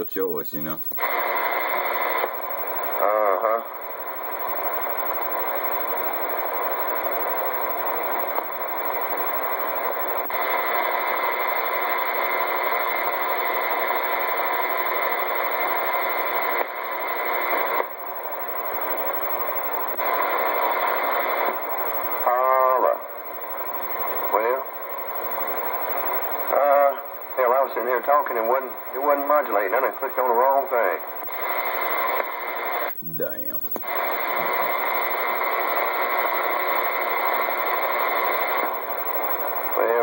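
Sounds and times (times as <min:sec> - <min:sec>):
faint steady tones: 0:00.0 - 0:40.0
radio static hiss: 0:00.0 - 0:40.0.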